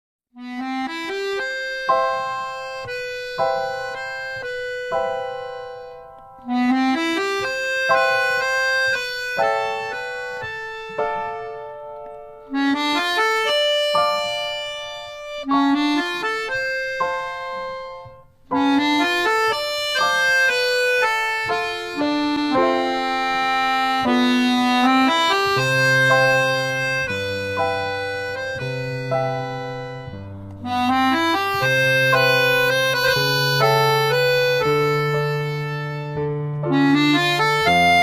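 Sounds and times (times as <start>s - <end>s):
instrumental background music: 0.4s - 38.0s.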